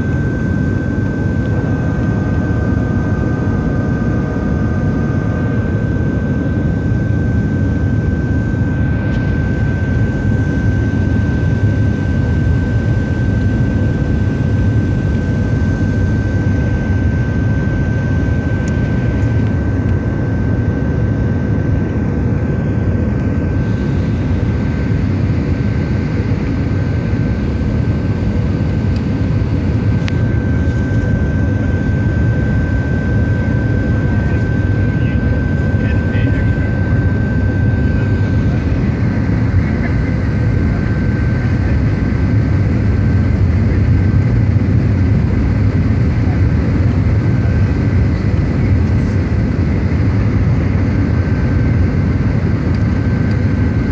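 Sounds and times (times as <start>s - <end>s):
aircraft cabin roar: 0.0s - 53.9s
thin steady whine: 0.0s - 53.9s.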